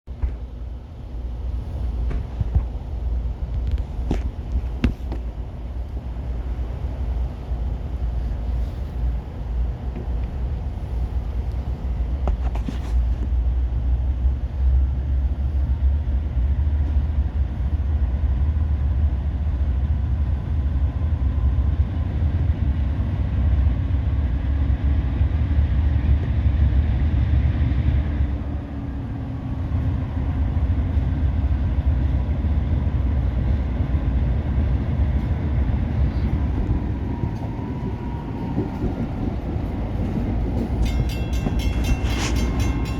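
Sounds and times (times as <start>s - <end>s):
diesel locomotive rumbling: 0.1s - 42.9s.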